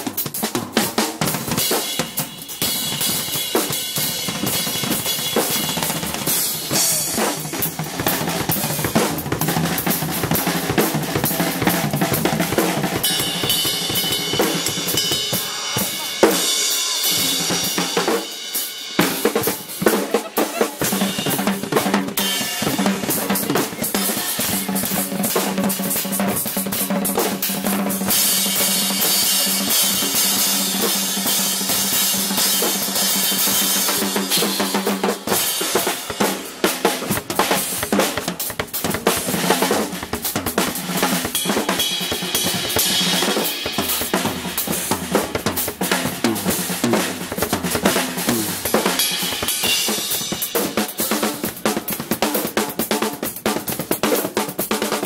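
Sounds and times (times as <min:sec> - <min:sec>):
drum kits played fast: 0:00.0 - 0:55.0.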